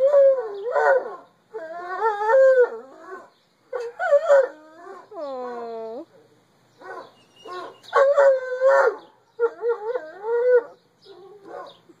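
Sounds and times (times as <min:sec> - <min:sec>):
dog howling and baying: 0:00.0 - 0:05.9, 0:06.8 - 0:11.7.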